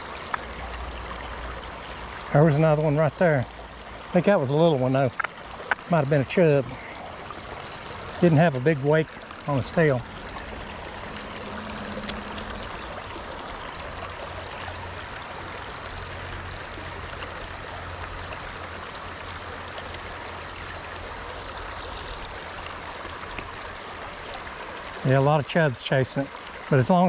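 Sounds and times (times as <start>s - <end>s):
stream water flowing: 0.0s - 27.0s.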